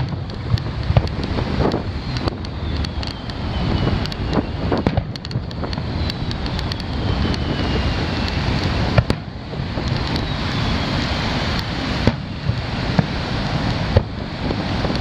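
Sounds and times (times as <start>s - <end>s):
firework shells bursting: 0.0s - 10.6s, 11.3s - 15.0s
surf: 0.0s - 15.0s
wind on microphone: 0.0s - 15.0s.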